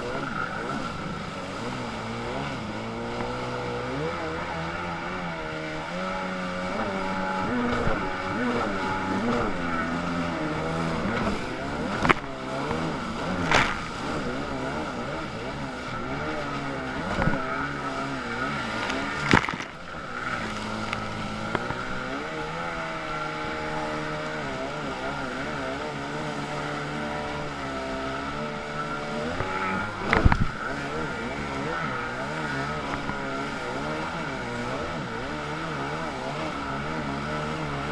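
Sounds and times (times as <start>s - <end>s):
jet ski engine running: 0.0s - 37.9s
water rushing: 0.0s - 37.9s.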